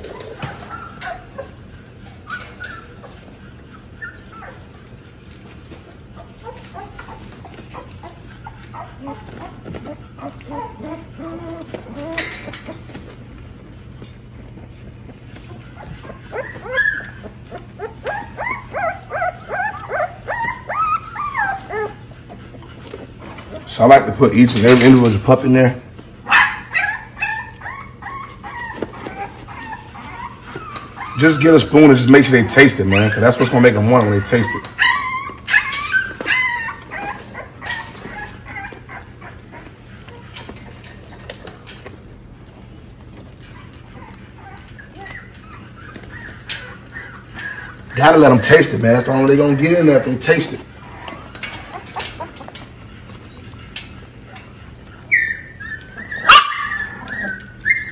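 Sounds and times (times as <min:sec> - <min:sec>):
puppy whimpering: 0:00.0 - 0:57.9.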